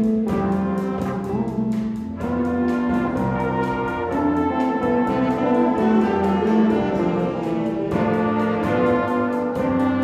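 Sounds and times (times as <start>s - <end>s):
brass sustained chords: 0.0s - 10.0s
jazz band playing bossa nova: 0.0s - 10.0s.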